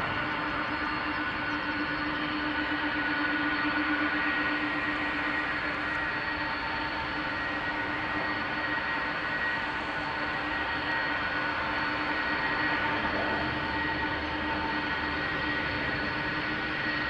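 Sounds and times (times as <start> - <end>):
jet engines at taxi power: 0.0 - 17.0.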